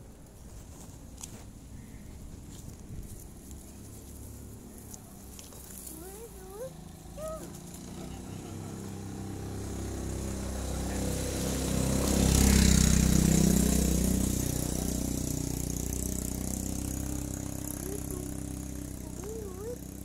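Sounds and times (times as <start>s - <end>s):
vehicle engine passing by: 2.7s - 20.0s.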